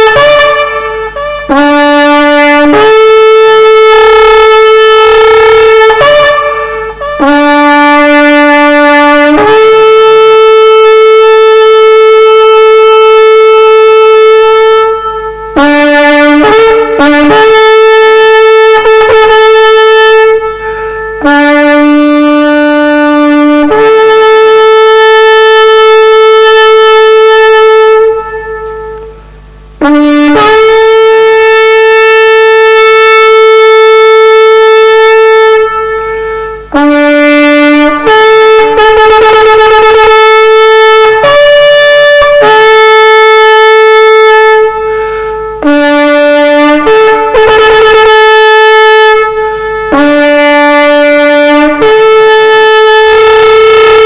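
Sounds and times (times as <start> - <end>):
shofar blasts: 0.0 - 54.0.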